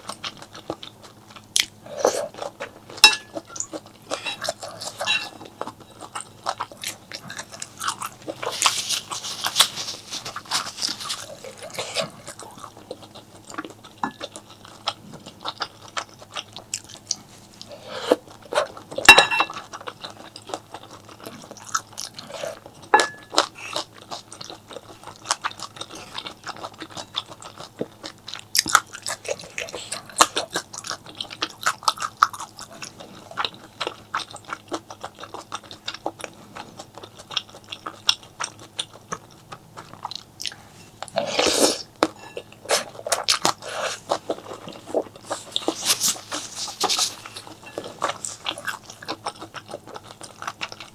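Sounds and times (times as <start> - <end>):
chewing and crunching bites: 0.0 - 50.9.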